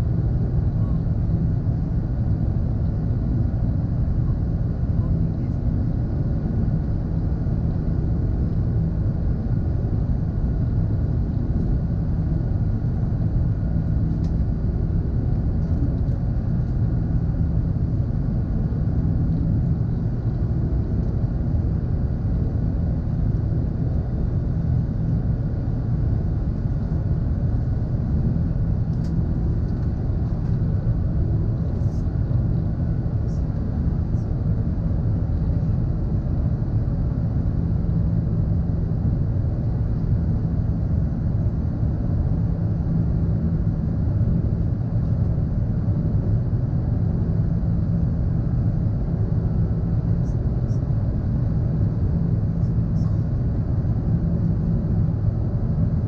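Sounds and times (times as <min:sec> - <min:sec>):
deep rumble of jet engines: 0:00.0 - 0:56.0.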